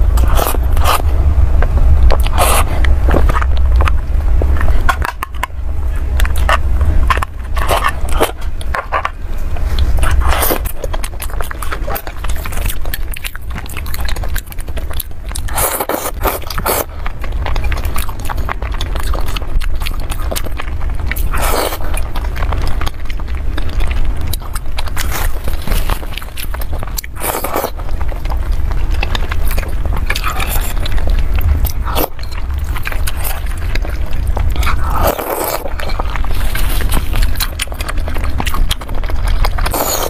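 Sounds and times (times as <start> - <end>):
biting and chewing: 0.0 - 40.0
low hum: 0.0 - 40.0.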